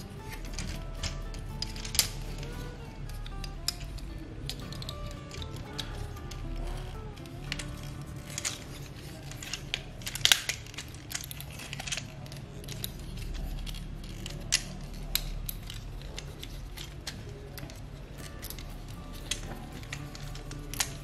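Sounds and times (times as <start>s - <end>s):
plastic toy clicking and knocking: 0.0s - 21.0s.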